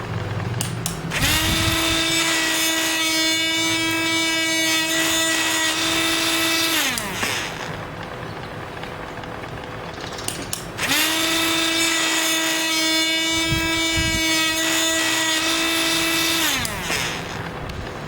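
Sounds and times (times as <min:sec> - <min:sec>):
electric drill motor whining: 0:00.8 - 0:08.2, 0:10.4 - 0:18.0.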